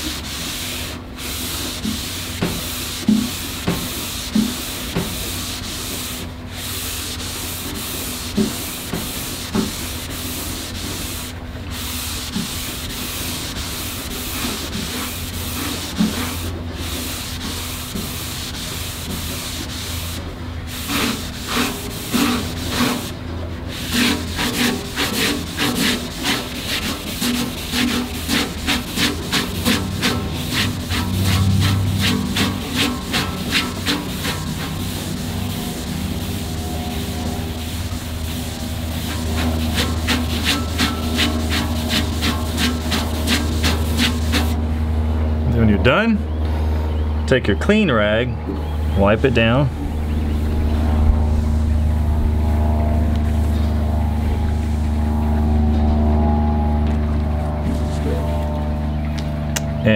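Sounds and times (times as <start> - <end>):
abrasive pad scrubbing steel: 0.0 - 46.2, 47.3 - 59.9.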